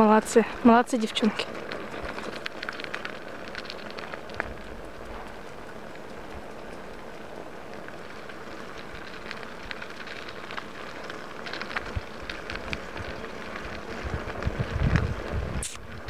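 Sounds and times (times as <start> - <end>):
bicycle rolling on wet gravel: 0.0 - 16.0
wind rumble on microphone: 0.0 - 16.0.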